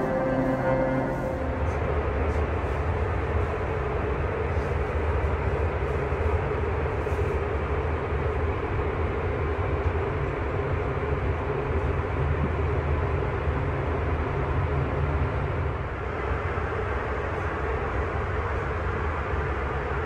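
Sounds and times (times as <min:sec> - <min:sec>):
airliner cabin roar: 0:00.0 - 0:19.7.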